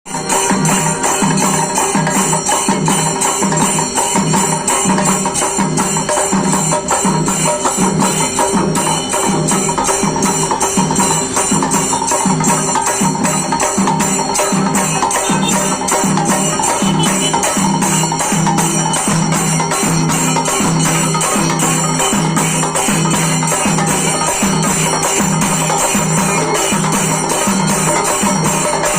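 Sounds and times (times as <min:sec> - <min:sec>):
steady percussion beat: 0:00.1 - 0:28.9.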